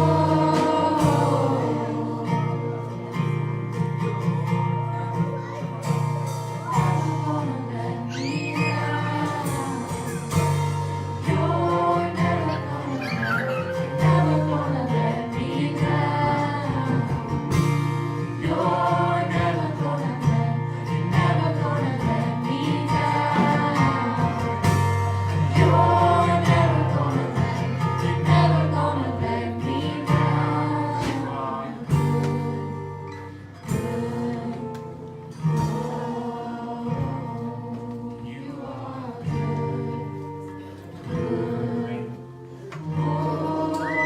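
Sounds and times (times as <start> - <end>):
voices singing together: 0.0 - 4.2, 6.5 - 44.0
bass guitar: 0.0 - 44.0
guitar: 0.0 - 44.0.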